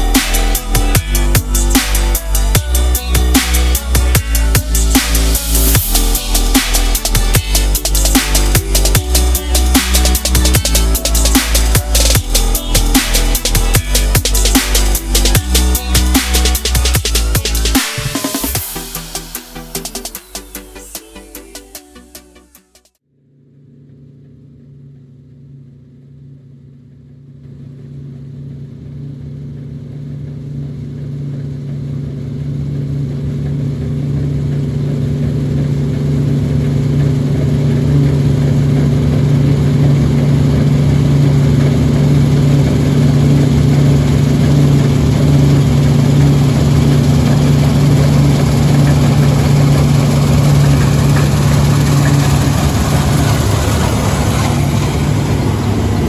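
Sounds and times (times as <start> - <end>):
farm machine engine running: 0.0 - 22.1, 27.7 - 56.0.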